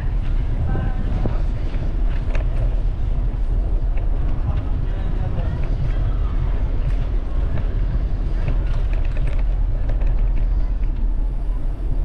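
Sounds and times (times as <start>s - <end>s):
road noise: 0.0s - 12.0s
wind noise on microphone: 0.0s - 12.0s.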